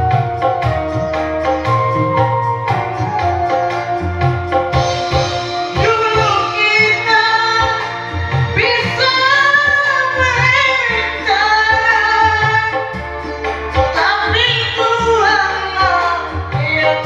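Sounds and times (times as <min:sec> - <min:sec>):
karaoke backing track: 0:00.0 - 0:17.0
person singing a slow ballad: 0:00.0 - 0:17.0.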